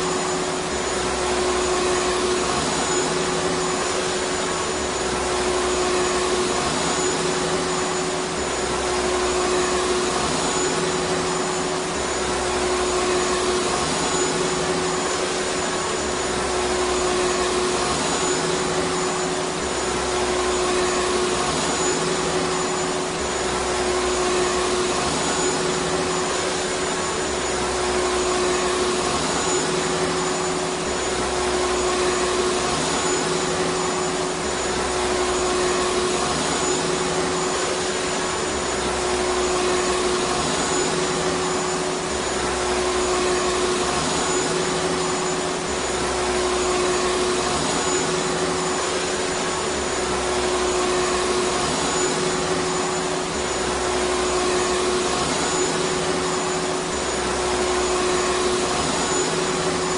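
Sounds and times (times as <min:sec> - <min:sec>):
vacuum cleaner motor running: 0:00.0 - 0:59.9.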